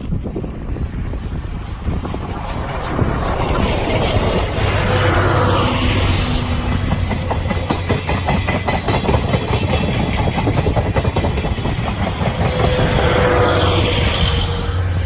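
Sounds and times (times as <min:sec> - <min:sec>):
low train rumble: 0:00.0 - 0:15.0
train wheels clattering over rail joints: 0:00.0 - 0:15.0.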